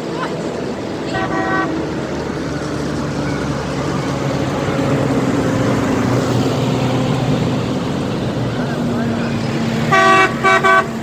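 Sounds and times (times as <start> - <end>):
passing tractor engine: 0.0 - 11.0.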